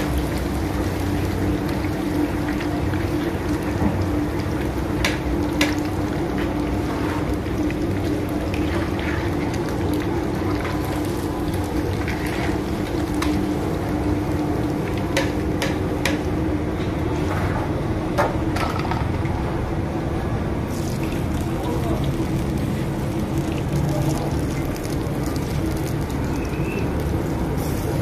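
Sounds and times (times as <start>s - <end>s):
oil sizzling and bubbling: 0.0s - 28.0s.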